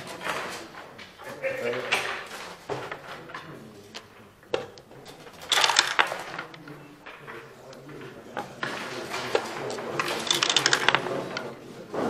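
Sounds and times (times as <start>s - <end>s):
checkers and dice clicking on wood: 0.2s - 11.6s.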